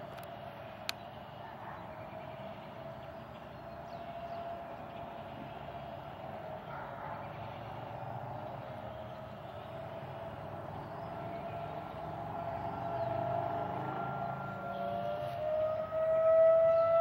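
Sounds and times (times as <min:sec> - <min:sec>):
distant warning sirens: 0:00.0 - 0:17.0.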